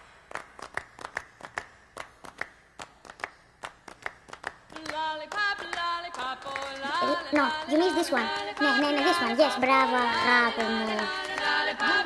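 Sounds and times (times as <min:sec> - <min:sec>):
hand claps: 0:00.0 - 0:12.0.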